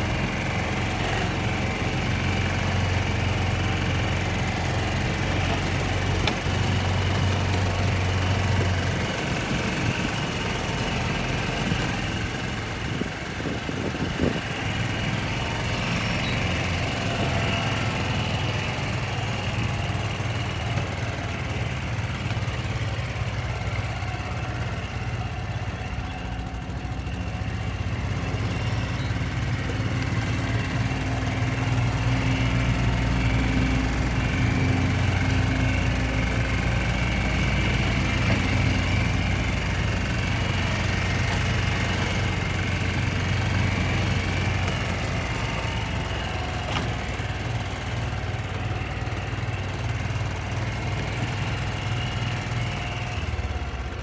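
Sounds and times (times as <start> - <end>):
small engine droning: 0.0 - 54.0.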